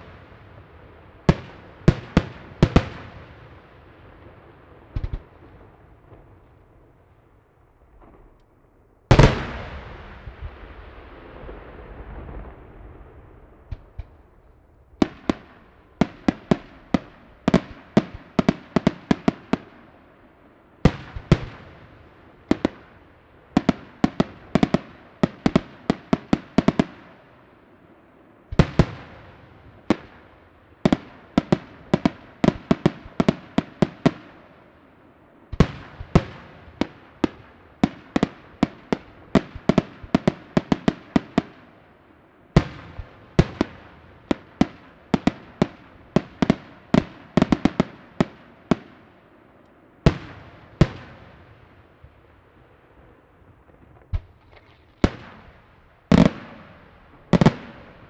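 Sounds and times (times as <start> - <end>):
fireworks bursting with sharp bangs: 0.0 - 58.0.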